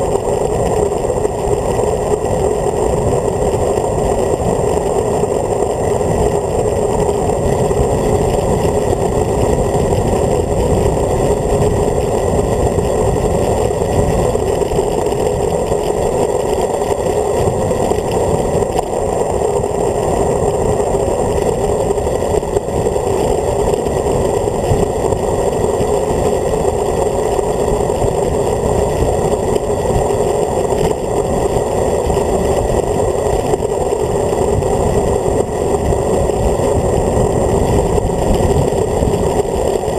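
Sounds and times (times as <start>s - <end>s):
wind rumbling over microphone: 0.0s - 39.9s.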